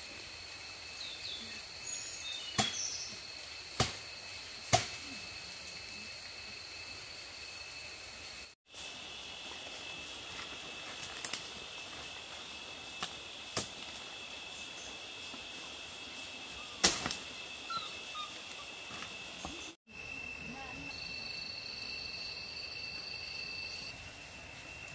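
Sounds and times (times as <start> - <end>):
high insect drone: 0.0 - 24.9.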